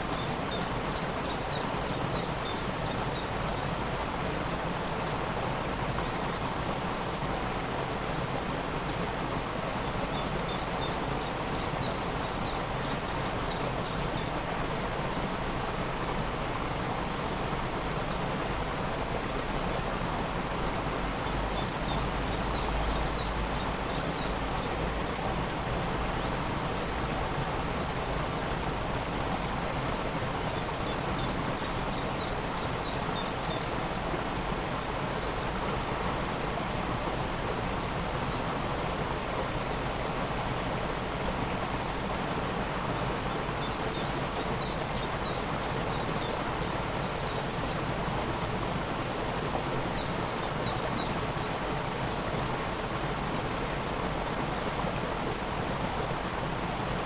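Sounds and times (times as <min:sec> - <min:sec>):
waterfall water falling: 0:00.0 - 0:57.0.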